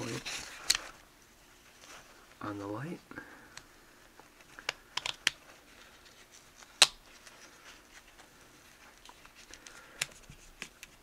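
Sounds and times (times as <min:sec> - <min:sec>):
faint rustling: 0:00.0 - 0:04.8, 0:05.4 - 0:11.0.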